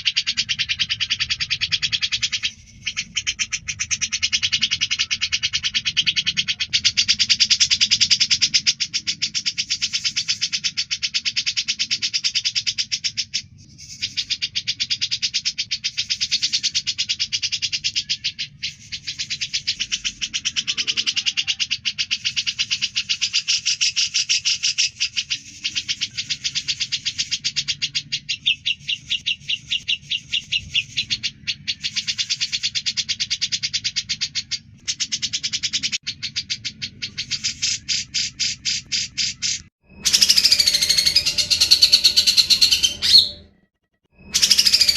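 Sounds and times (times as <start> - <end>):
bird singing fast chatter: 0.0 - 44.9.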